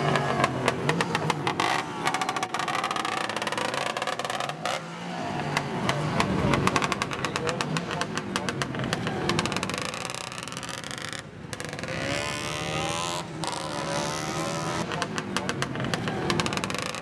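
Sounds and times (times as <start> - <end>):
motorcycle engine pulling away: 0.0 - 17.0.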